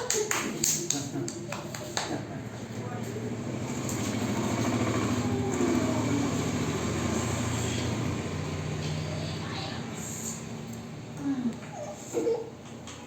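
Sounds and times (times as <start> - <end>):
engine running with low hum: 2.2 - 13.0.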